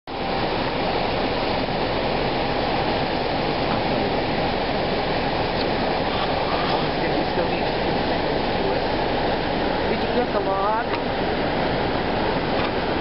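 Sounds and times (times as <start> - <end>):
floodwater rushing: 0.1 - 13.0.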